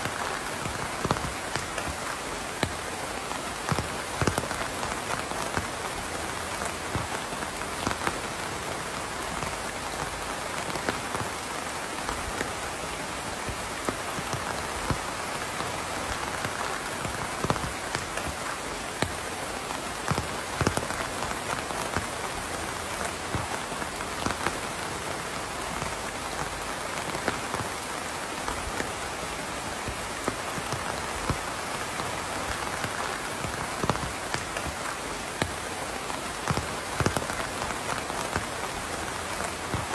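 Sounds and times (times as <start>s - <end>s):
rain pattering on a hard surface: 0.0s - 39.9s.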